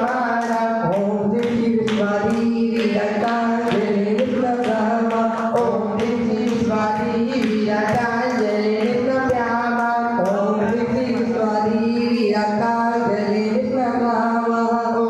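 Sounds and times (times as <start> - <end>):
voices singing a chant: 0.0 - 15.0.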